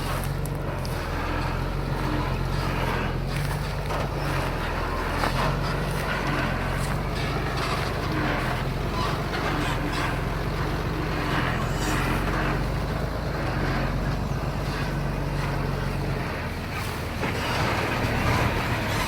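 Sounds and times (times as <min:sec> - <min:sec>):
diesel engine running: 0:00.0 - 0:19.0
rough rattling: 0:00.0 - 0:19.0.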